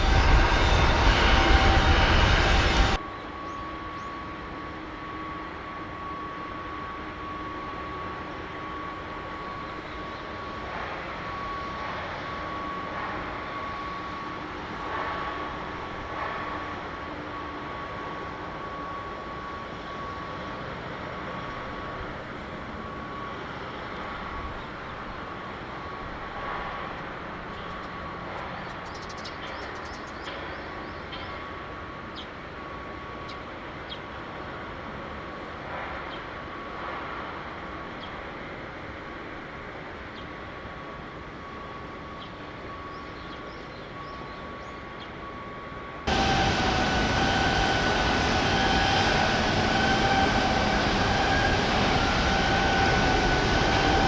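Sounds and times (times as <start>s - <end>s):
faint high whine: 0.0s - 54.0s
loud rumble with whining tones: 0.0s - 54.0s.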